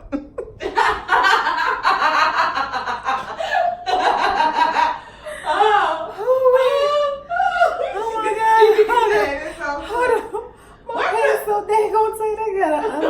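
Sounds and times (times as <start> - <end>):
woman laughing hard: 0.0 - 11.2.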